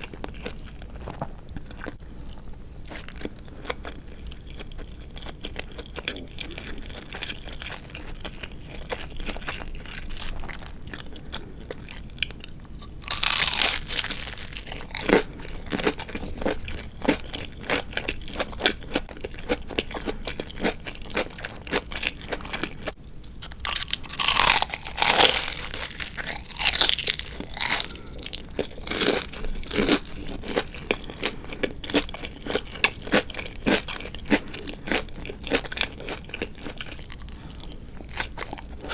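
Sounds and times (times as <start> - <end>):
chewing crispy fried chicken: 0.0 - 38.9.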